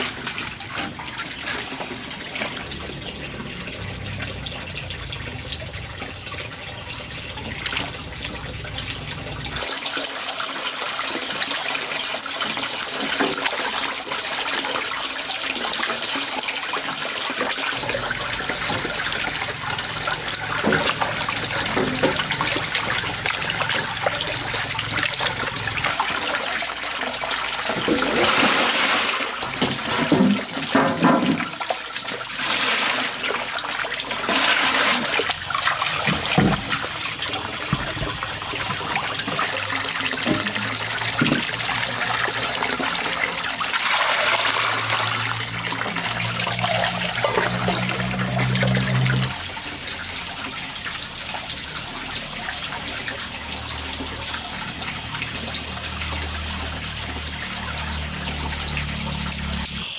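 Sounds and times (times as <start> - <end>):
water splashing and gurgling: 0.0 - 59.9.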